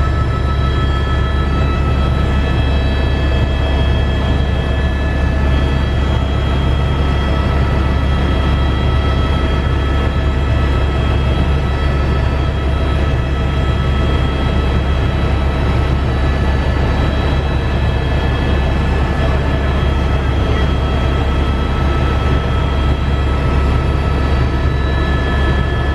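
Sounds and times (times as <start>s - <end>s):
aircraft engine rumble: 0.0s - 25.9s
high engine whine: 0.0s - 25.9s.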